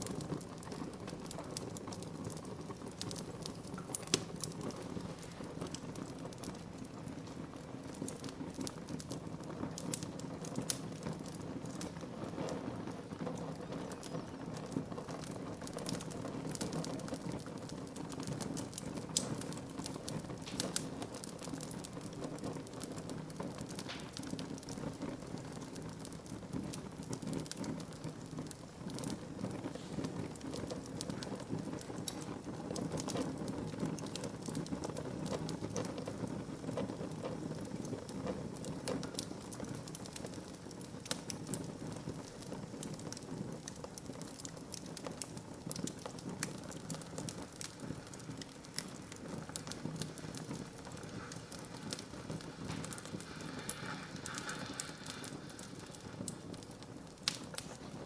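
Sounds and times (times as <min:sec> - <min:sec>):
burning wood crackling and popping: 0:00.0 - 0:58.0
low rush of flame: 0:00.0 - 0:58.0.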